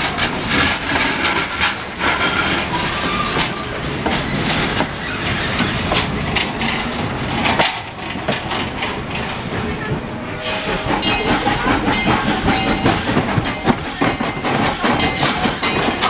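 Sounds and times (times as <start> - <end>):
train wheels clacking over rail joints: 0.0 - 16.0.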